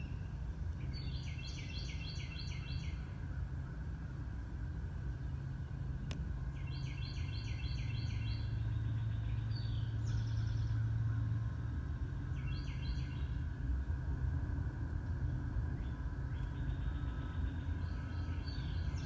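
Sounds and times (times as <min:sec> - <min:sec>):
low churning hum: 0:00.0 - 0:19.0.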